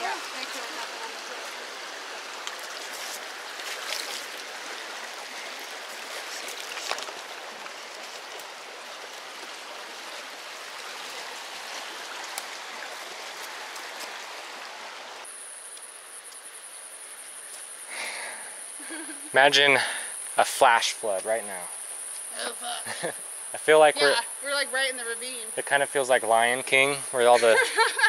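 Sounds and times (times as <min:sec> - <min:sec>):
creek water running over rocks: 0:00.0 - 0:28.0.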